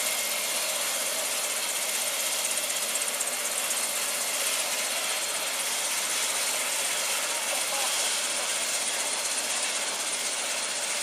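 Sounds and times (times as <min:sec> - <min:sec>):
engines running steadily: 0:00.0 - 0:11.0.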